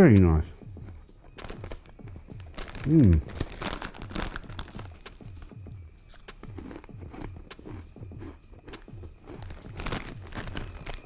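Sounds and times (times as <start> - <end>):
faint background music with beat: 0.0 - 11.0
chewing and crunching: 0.6 - 11.0
snack bag crinkling: 0.8 - 11.0.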